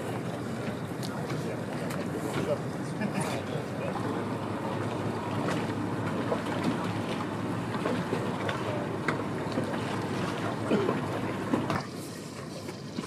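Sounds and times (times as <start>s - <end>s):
water rushing: 0.0s - 13.0s
wind: 0.0s - 13.0s.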